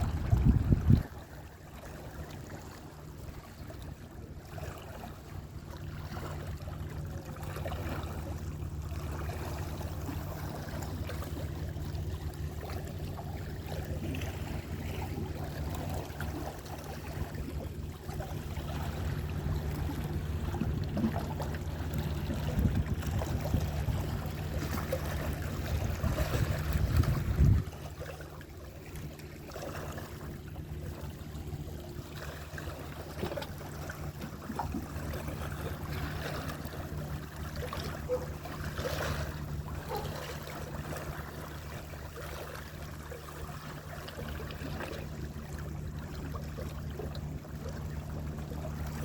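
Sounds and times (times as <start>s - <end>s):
sea waves and surf: 0.0s - 49.0s.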